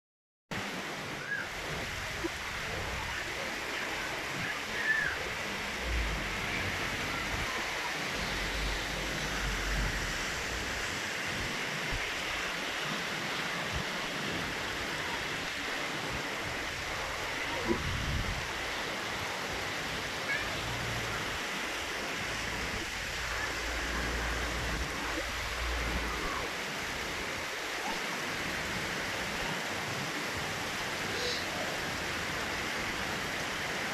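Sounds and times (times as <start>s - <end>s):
heavy rain falling: 0.6s - 33.9s.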